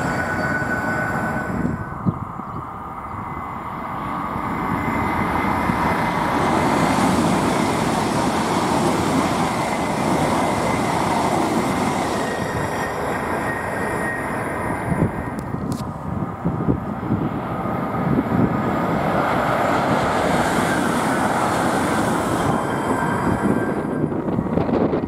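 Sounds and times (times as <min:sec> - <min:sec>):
high-speed train rushing past: 0:00.0 - 0:25.0.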